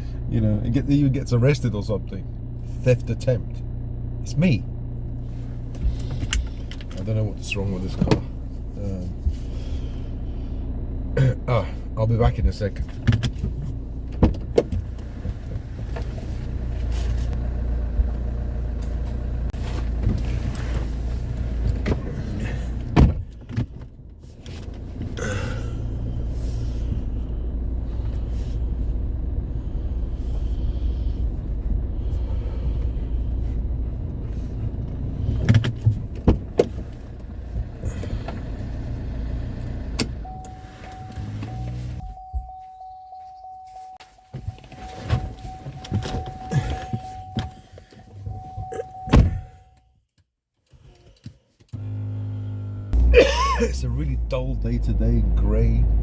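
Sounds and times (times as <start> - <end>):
car engine hum from inside: 0.0 - 49.8, 51.7 - 56.0.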